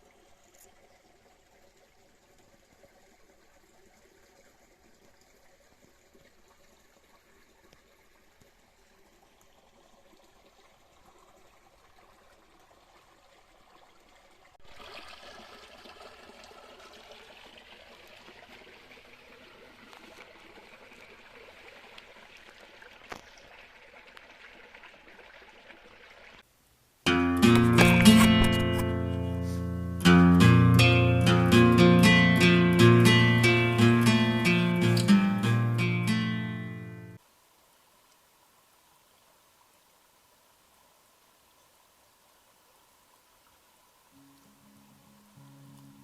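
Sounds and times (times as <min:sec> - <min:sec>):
stream water running: 0:00.0 - 0:46.0.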